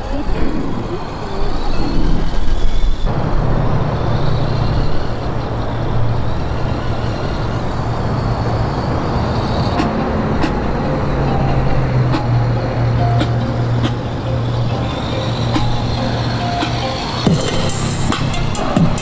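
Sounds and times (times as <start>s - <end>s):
simulated truck engine drone: 0.0s - 19.0s.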